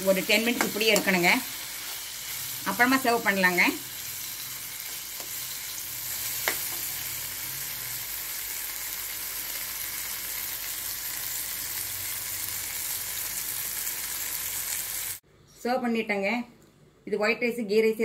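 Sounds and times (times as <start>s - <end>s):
chicken sizzling in oil: 0.0s - 15.2s.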